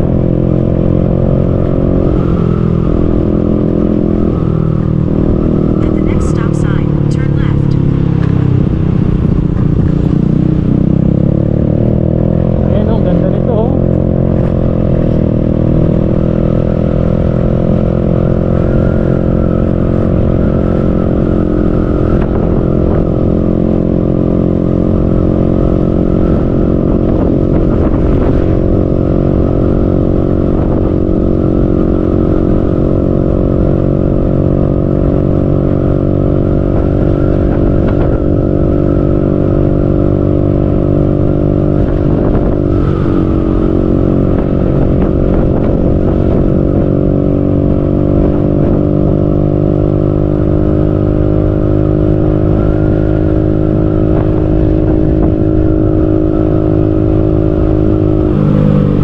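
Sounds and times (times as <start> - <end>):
motorcycle engine cruising: 0.0 - 59.0
wind rumble on microphone: 0.0 - 59.0.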